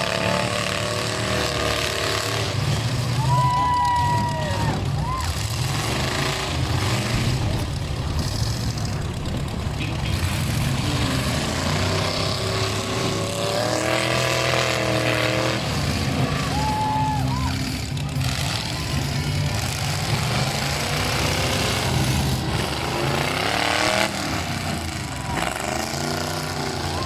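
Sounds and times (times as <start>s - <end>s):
truck engines revving: 0.0s - 27.0s.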